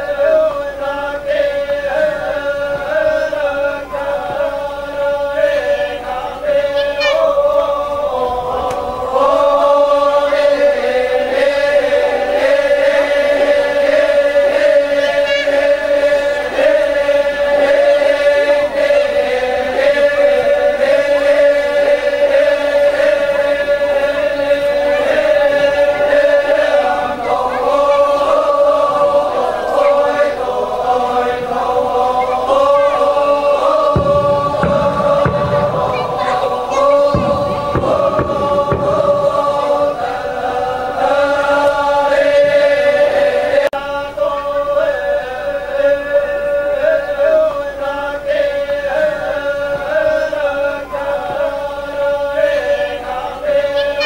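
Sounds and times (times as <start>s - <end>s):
group of voices chanting: 0.0s - 54.0s.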